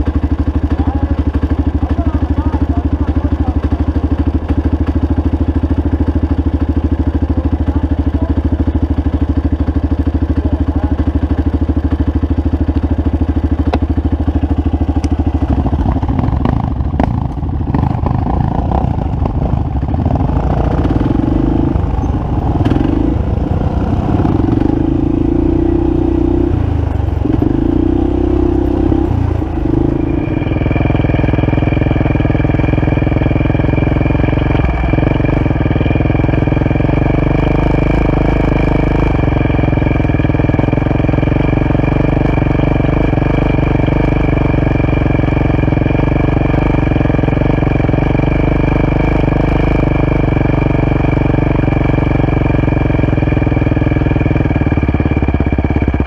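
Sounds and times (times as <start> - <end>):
engine idling: 0.0 - 56.0
engine knocks: 0.0 - 56.0.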